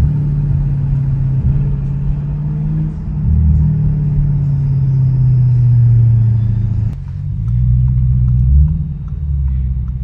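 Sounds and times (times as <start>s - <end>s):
car exhaust droning: 0.0s - 10.0s.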